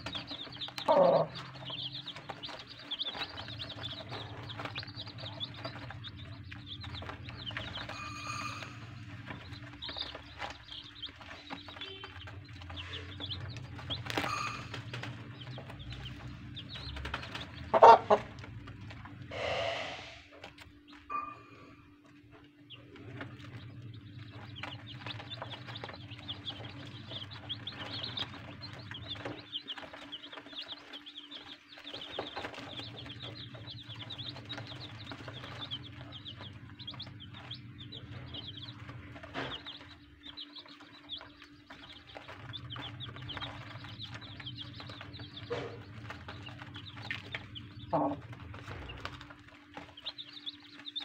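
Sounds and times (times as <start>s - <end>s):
chicks peeping: 0.0s - 51.0s.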